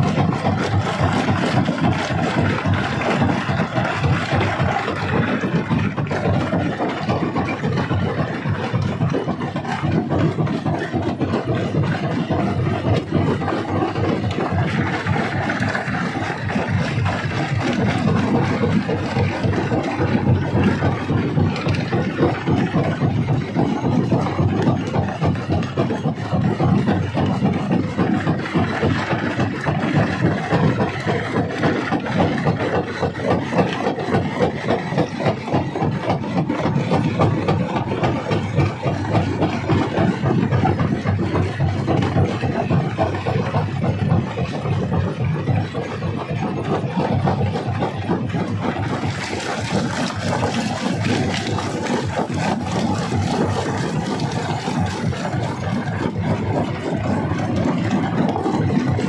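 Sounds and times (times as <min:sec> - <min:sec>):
rock crusher machine running: 0:00.0 - 0:59.0.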